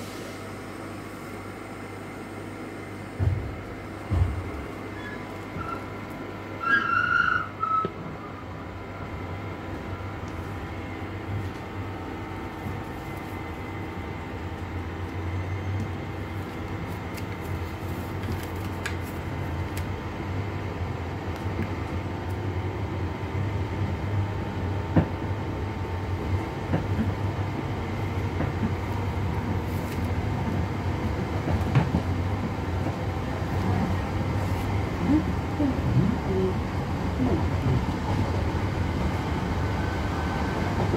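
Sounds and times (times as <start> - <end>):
train electric whine and rumble: 0.0 - 40.9.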